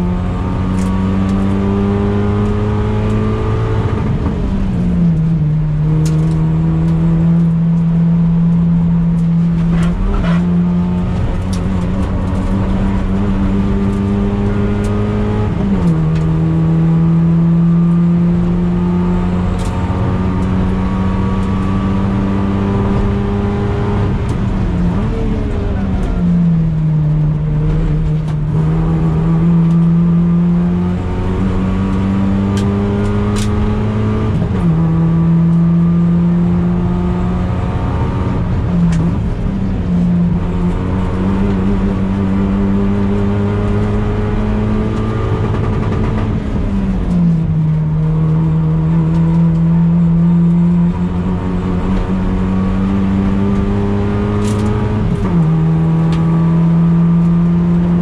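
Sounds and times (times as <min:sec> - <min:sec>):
car engine accelerating hard: 0:00.0 - 0:58.0
road and wind noise: 0:00.0 - 0:58.0.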